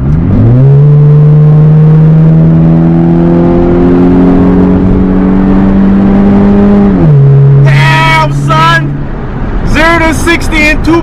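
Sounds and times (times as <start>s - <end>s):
car engine revving at full throttle: 0.0s - 11.0s.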